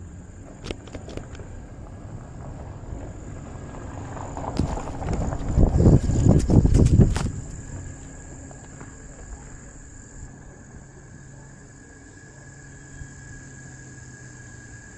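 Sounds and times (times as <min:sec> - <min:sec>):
insects chirring: 0:00.0 - 0:14.9
low steady hum: 0:00.0 - 0:14.9.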